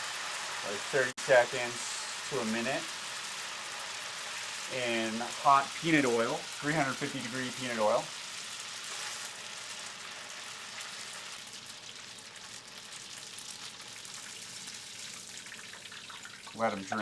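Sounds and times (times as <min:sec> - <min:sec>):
noodles deep-frying in oil: 0:00.0 - 0:17.0.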